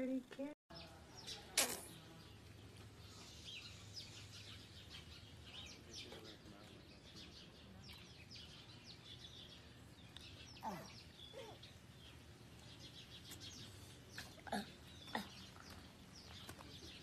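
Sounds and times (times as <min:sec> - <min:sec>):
small birds chirping faintly: 0:00.0 - 0:17.0
falling bird calls: 0:00.8 - 0:17.0.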